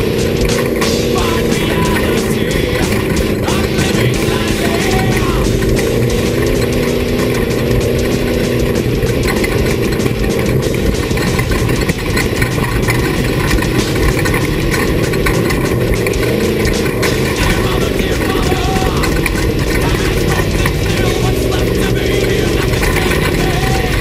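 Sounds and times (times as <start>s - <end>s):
off-road vehicle engine running: 0.0s - 24.0s
rattle of knocks and clicks: 0.0s - 24.0s.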